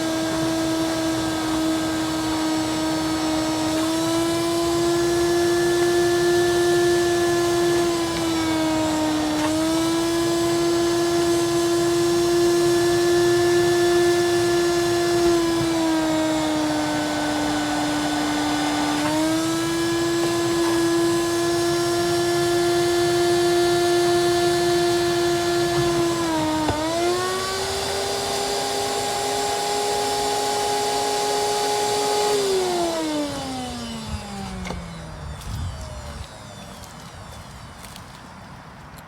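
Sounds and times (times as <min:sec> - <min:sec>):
shop vacuum sucking up water: 0:00.0 - 0:36.6.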